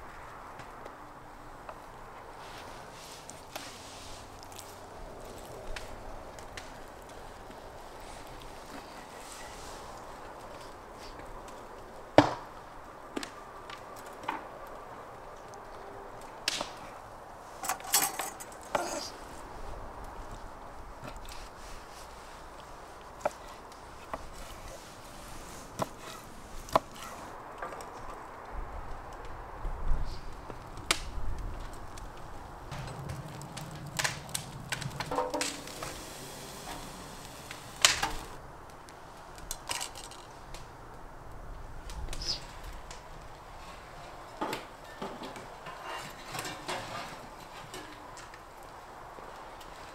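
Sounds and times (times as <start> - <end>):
firewood cracking and knocking: 1.6 - 17.0, 19.9 - 28.2, 30.3 - 40.7, 41.8 - 49.9.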